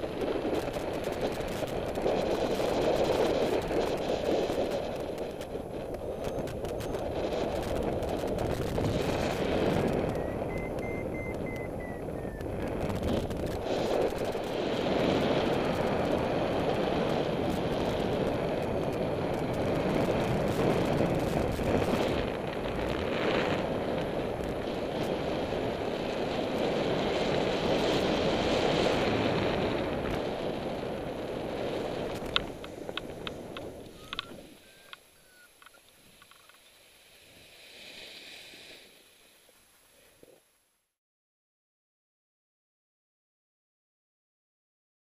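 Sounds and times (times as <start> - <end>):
wind rushing over microphone: 0.0 - 36.4.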